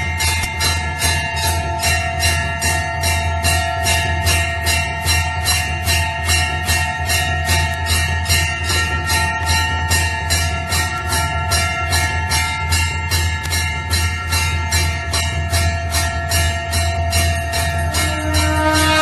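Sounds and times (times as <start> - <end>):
temple bell ringing: 0.0 - 19.0.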